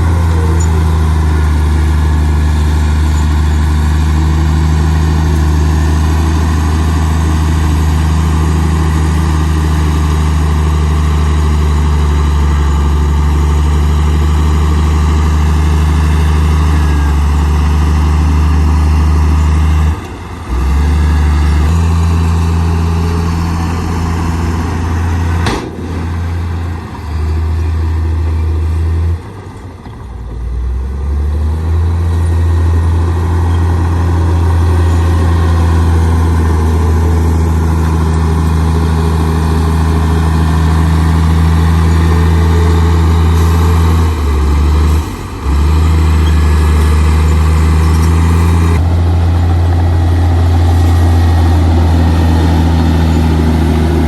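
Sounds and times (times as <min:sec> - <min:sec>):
heavy diesel engine drone: 0:00.0 - 0:54.0.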